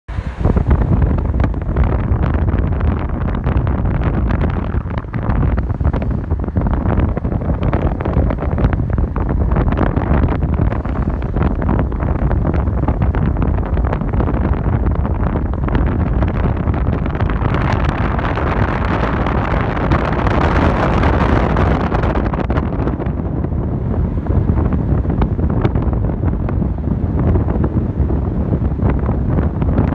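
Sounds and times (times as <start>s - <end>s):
car rumble: 0.0s - 29.9s
rushing air: 0.1s - 29.9s
wind buffeting microphone: 0.1s - 29.9s.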